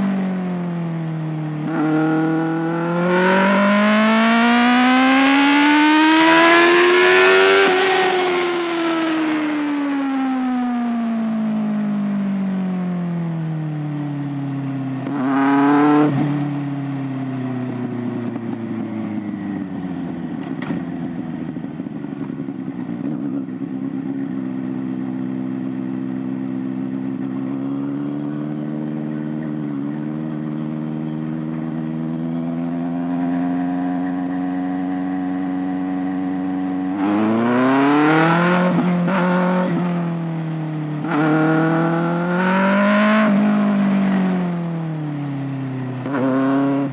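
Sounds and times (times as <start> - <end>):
motorcycle engine revving: 0.0 - 12.2, 14.5 - 46.9.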